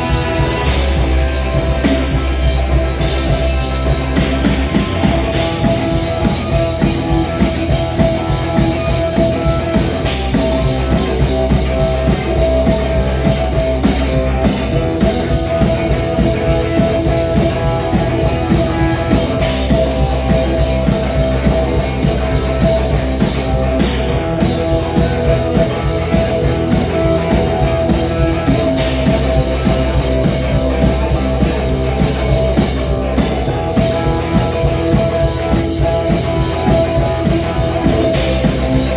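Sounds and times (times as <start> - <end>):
loud rock music: 0.0 - 38.9.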